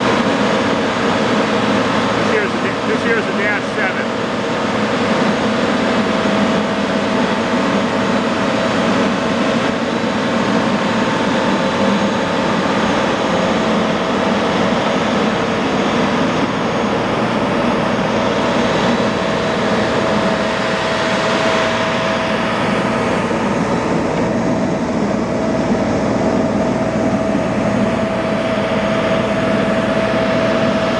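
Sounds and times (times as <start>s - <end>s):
milling machine drone and whine: 0.0s - 30.9s.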